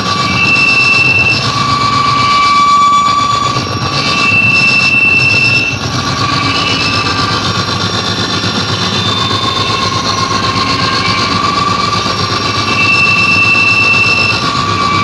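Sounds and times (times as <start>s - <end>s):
dense wall of noise: 0.0s - 15.0s
high screeching tones: 0.0s - 15.0s.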